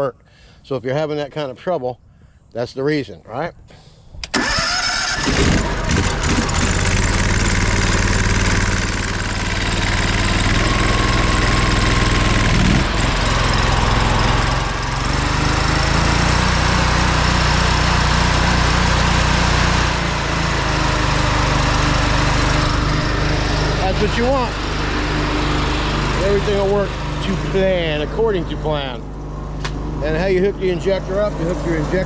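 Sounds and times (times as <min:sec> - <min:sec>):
pressure washer engine running: 0:04.5 - 0:32.0.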